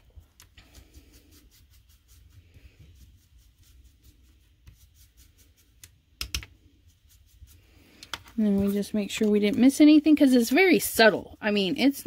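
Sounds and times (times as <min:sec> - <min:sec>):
brush scratching on paper: 0:00.0 - 0:12.0.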